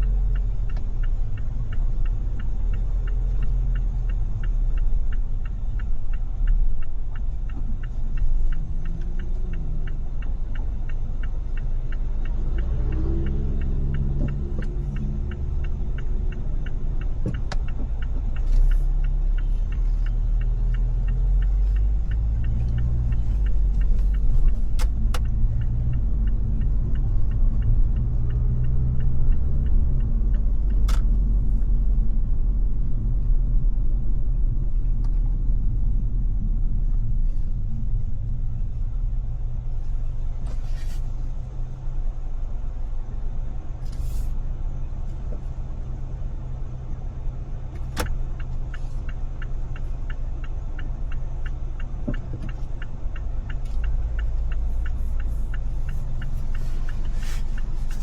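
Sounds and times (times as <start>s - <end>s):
car engine and road rumble: 0.0s - 58.0s
light even ticking: 0.0s - 58.0s.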